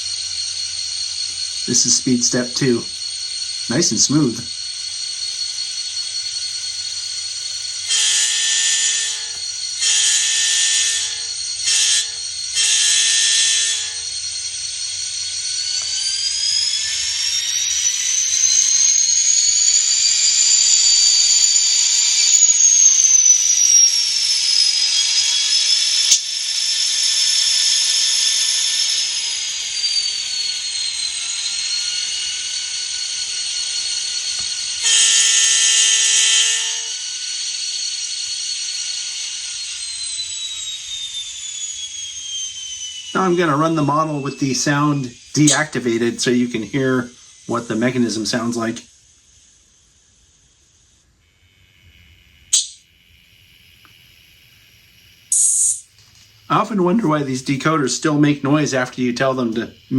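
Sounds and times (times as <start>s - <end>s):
diesel engine high whine: 0.0s - 48.9s, 56.5s - 59.9s.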